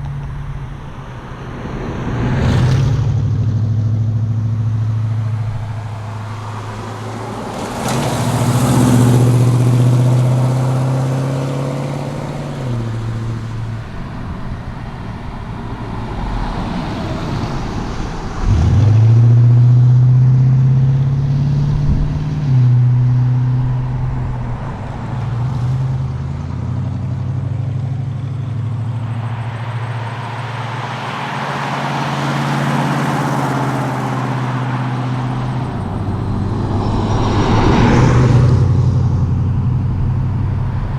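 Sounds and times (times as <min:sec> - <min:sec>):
car engine accelerating and shifting: 0:00.0 - 0:40.9
road and wind noise: 0:00.0 - 0:40.9.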